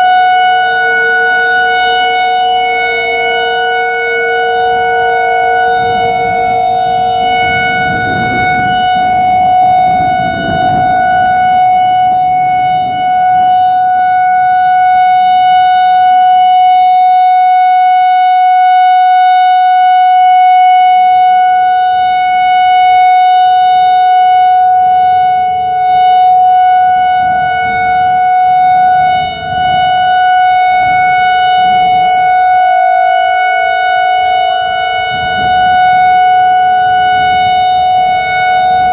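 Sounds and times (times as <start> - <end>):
electronic warning siren steady tone: 0.0 - 38.9.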